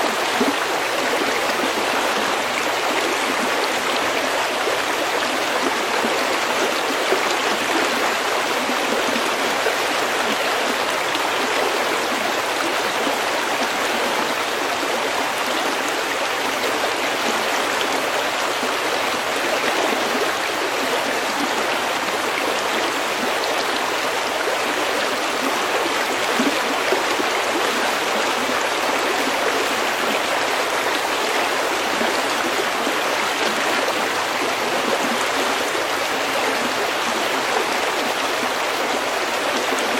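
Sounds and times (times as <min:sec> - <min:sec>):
stream flowing over pebbles: 0:00.0 - 0:39.9.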